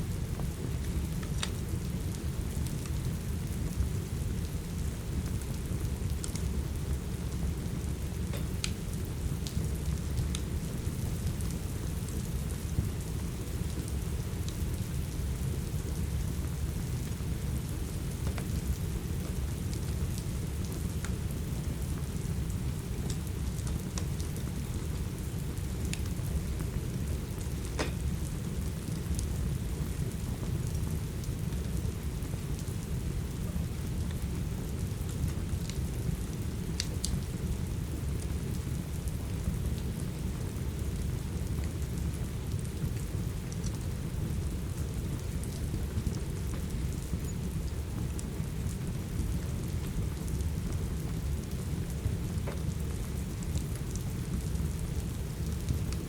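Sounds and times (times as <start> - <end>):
steady rain: 0.0 - 56.0
wood fire crackling and popping: 0.3 - 38.6, 39.3 - 56.0.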